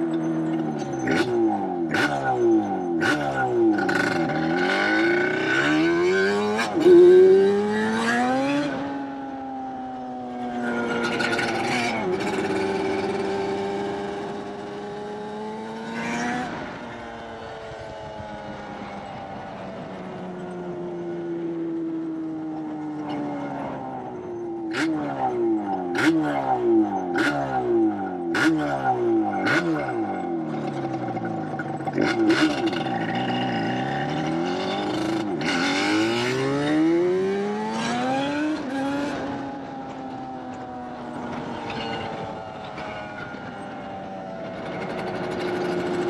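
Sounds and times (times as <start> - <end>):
vehicle engines revving: 0.0 - 46.0.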